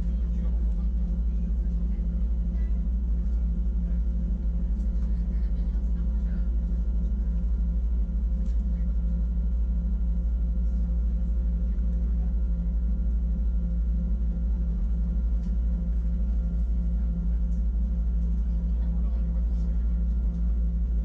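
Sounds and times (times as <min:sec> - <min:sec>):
electric hum: 0:00.0 - 0:21.0
train low rumble: 0:00.0 - 0:21.0.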